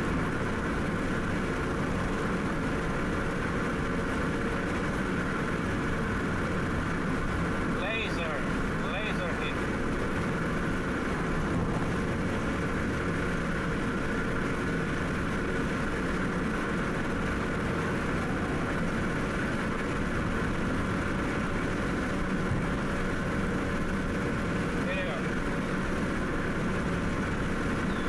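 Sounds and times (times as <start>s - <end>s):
road and engine noise inside car: 0.0s - 28.0s.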